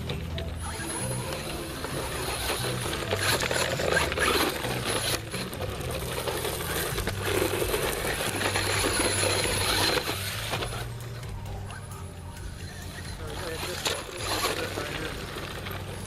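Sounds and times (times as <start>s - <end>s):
electric rc truck motor whirring: 0.0s - 16.0s.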